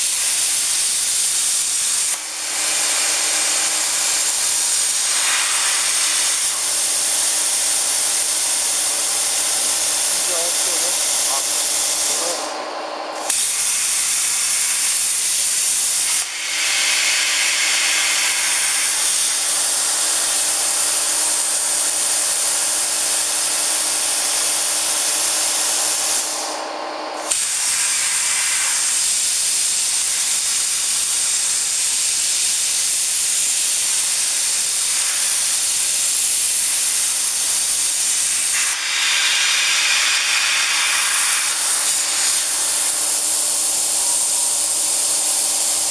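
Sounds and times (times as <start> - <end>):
cutting torch gas hissing: 0.0 - 12.6, 13.2 - 26.6, 27.2 - 45.9.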